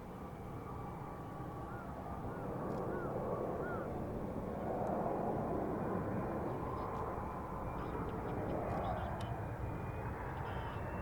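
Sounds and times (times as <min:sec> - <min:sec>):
distant jet engine rumble: 0:00.0 - 0:11.0.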